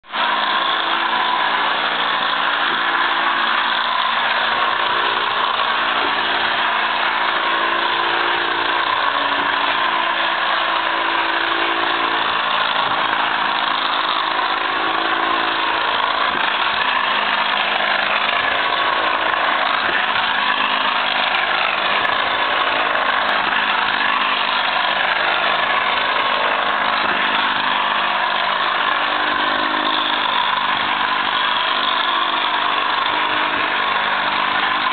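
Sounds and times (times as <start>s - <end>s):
traction engine running: 0.1s - 34.9s.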